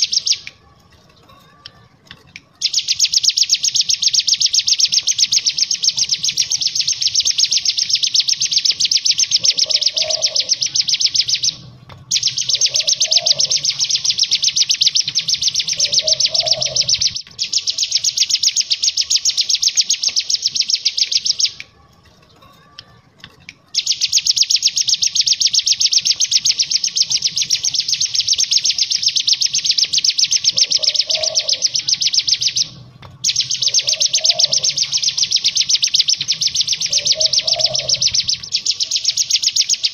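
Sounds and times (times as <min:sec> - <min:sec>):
bird singing buzzing trill: 0:02.6 - 0:21.6, 0:23.8 - 0:39.9
short lower bird calls: 0:02.6 - 0:21.6, 0:23.8 - 0:39.9.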